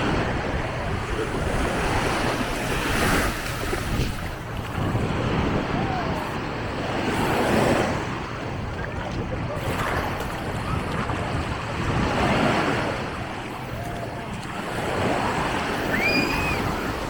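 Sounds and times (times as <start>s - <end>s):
small waves washing onto sand: 0.0s - 17.0s
wind buffeting microphone: 0.0s - 17.0s.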